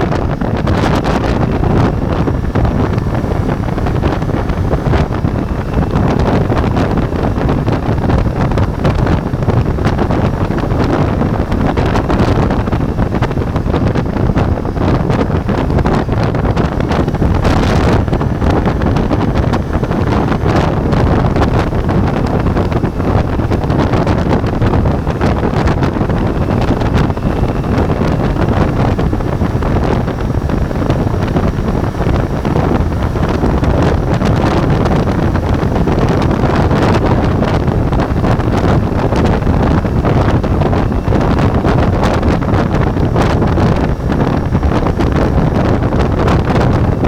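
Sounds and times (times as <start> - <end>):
motorcycle engine running: 0.0 - 47.0
road noise: 0.0 - 47.0
wind buffeting microphone: 0.0 - 47.0.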